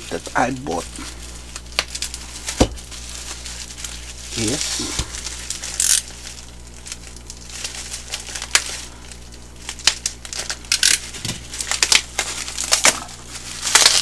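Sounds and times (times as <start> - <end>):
bubble wrap crinkling and crackling: 0.0 - 14.0.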